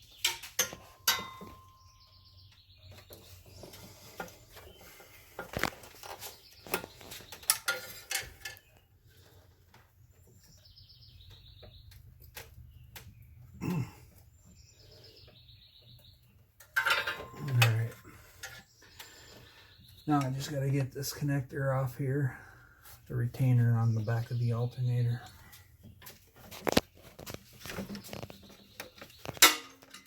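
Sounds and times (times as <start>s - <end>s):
bird chirping: 0.0s - 9.4s, 10.0s - 29.5s.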